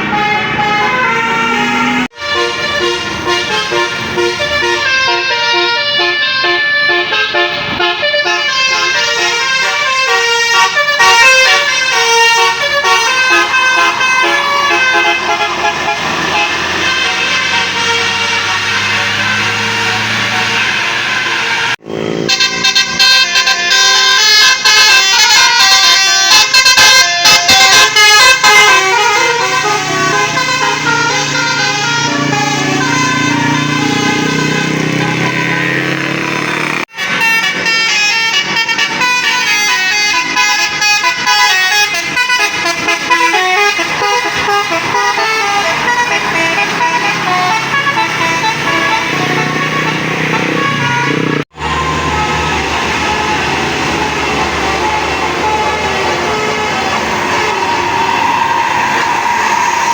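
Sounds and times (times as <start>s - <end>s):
multi-tone bus horn: 0.0s - 59.9s.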